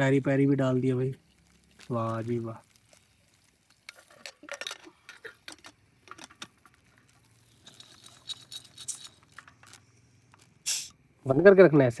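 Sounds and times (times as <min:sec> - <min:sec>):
popcorn kernels rattling in pan: 0:00.5 - 0:10.8.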